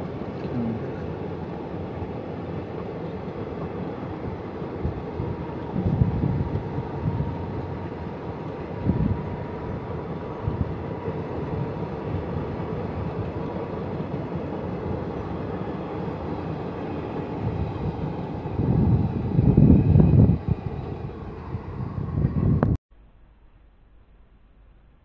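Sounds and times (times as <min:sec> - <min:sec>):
train wheels rumbling on rails: 0:00.0 - 0:22.8.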